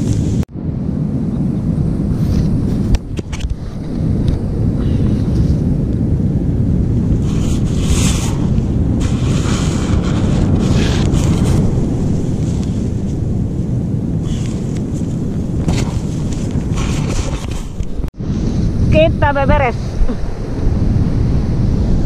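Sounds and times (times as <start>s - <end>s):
wind buffeting microphone: 0.0s - 22.0s
sea surf washing in: 3.6s - 17.5s, 18.2s - 22.0s.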